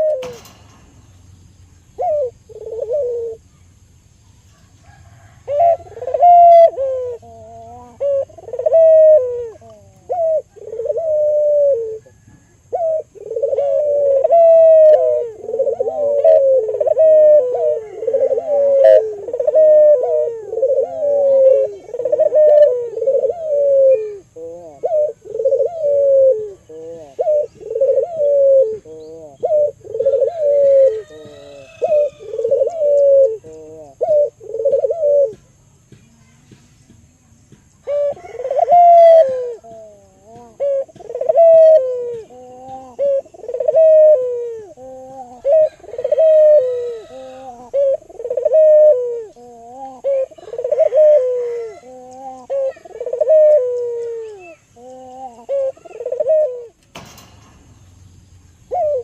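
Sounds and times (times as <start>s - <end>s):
dove cooing: 0.0s - 1.0s, 1.9s - 3.8s, 4.4s - 35.6s, 37.7s - 57.6s, 58.5s - 59.0s.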